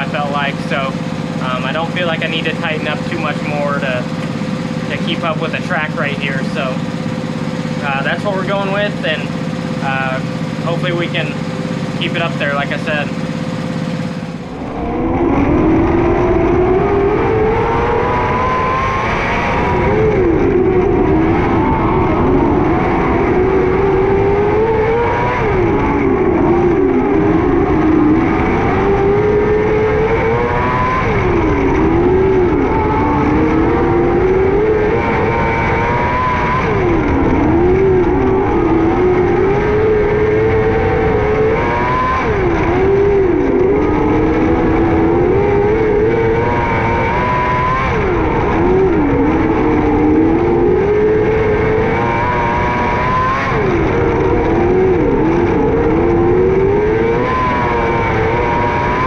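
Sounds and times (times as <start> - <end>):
racing car engine running hard: 0.0 - 59.0.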